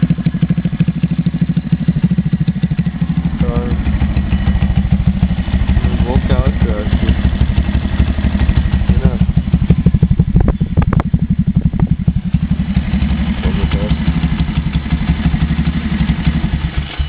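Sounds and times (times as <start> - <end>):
pit bike engine idling: 0.0 - 17.0.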